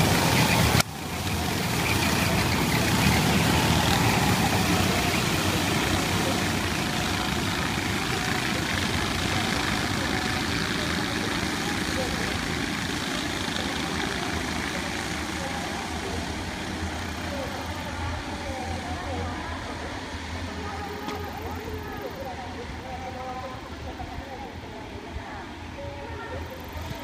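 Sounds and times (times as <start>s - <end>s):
racing kart engines droning: 0.0s - 27.0s.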